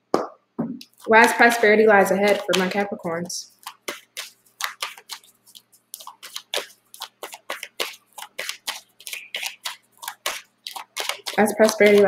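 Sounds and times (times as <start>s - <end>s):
cards being shuffled by hand: 0.8s - 12.0s.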